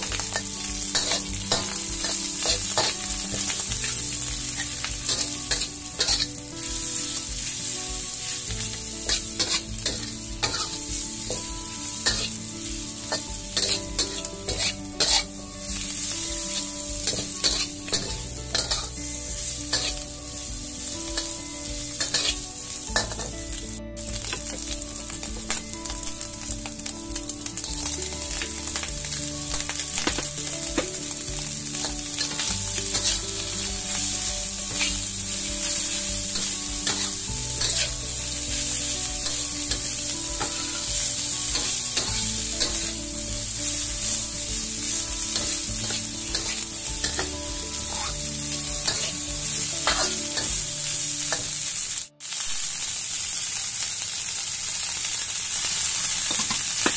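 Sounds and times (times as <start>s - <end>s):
spatula scraping wok: 0.0s - 23.4s, 27.4s - 51.7s
vegetables sizzling in oil: 0.0s - 56.9s.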